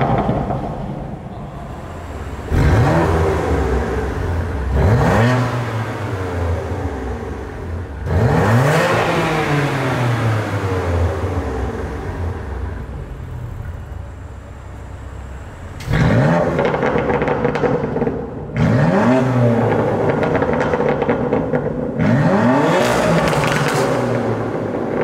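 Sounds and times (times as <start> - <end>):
car engine revving: 0.0 - 25.0
exhaust crackle: 0.0 - 25.0.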